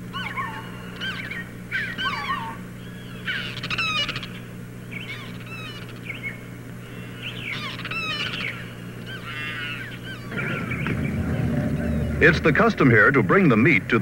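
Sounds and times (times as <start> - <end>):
flock of birds chirping: 0.0 - 14.0
steady low hum: 0.0 - 14.0.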